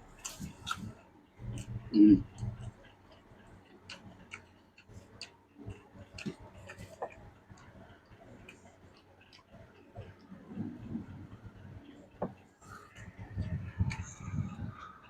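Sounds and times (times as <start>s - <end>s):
person chewing: 0.0s - 11.2s, 11.9s - 15.0s.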